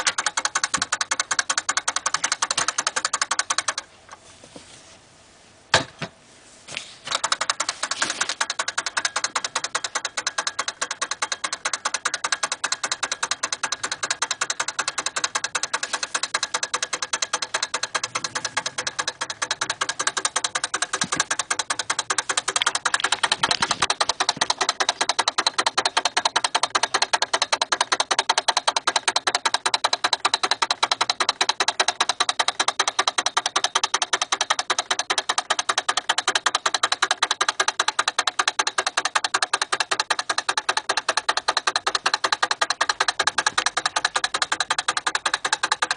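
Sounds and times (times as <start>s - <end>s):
clockwork turntable ticking: 0.0s - 3.9s, 7.1s - 45.9s.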